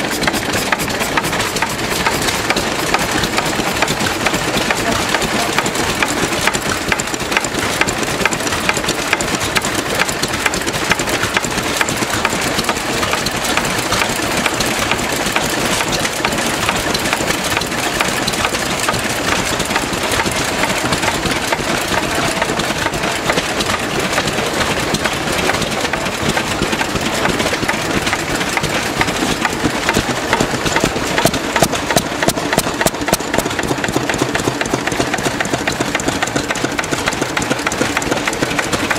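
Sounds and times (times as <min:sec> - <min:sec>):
stationary engines running: 0:00.0 - 0:38.9.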